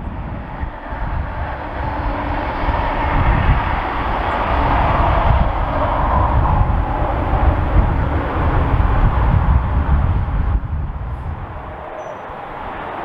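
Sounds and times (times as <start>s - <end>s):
locomotive rumbling: 0.0s - 13.0s
wind buffeting microphone: 0.0s - 13.0s.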